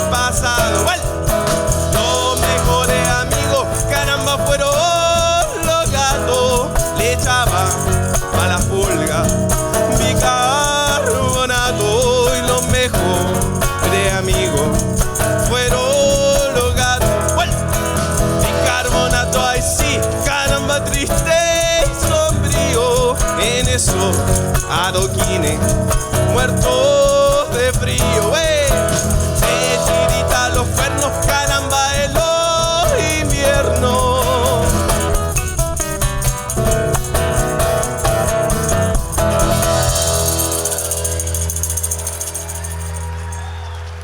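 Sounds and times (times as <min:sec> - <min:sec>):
person singing: 0:00.0 - 0:35.8
instrumental backing music: 0:00.0 - 0:43.5.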